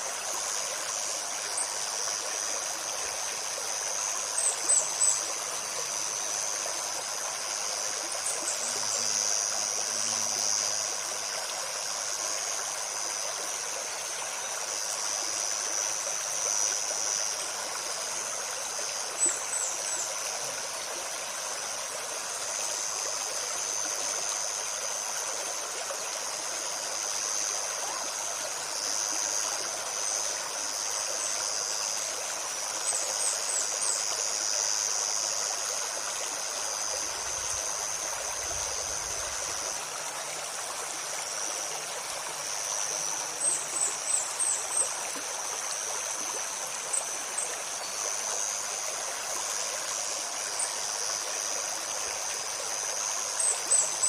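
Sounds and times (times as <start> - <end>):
high-pitched insect drone: 0.0 - 54.0
stream babbling over stones: 0.0 - 54.0.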